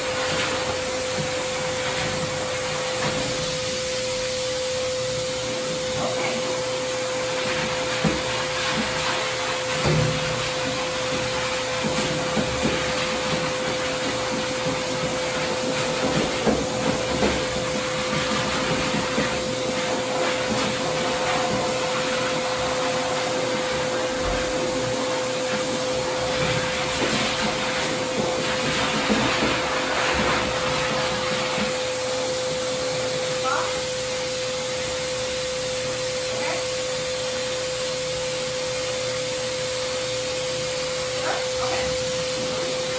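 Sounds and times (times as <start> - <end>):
blow dryer rushing air: 0.0 - 42.9.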